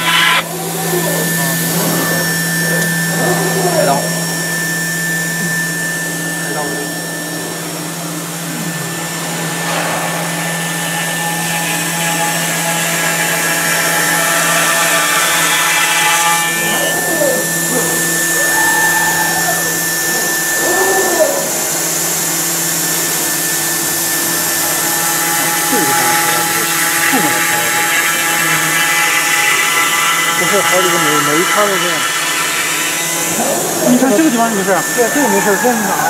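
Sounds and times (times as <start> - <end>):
machine axes whining: 0.0 - 36.0
router spindle whine: 0.0 - 36.0.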